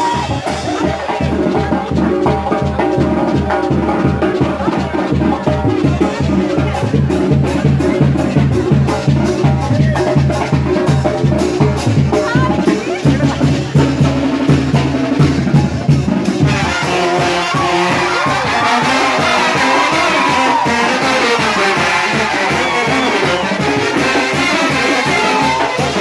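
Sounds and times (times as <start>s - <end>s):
brass band playing: 0.0s - 26.0s
steady drum beat: 0.0s - 26.0s.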